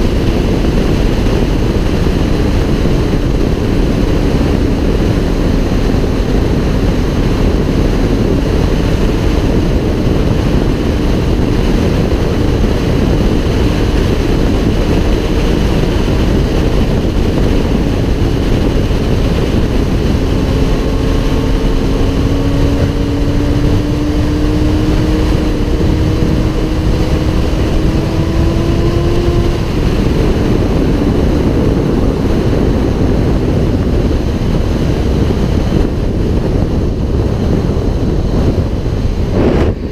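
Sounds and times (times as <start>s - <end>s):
motorcycle engine: 0.0s - 39.9s
wind rush on microphone: 0.0s - 39.9s.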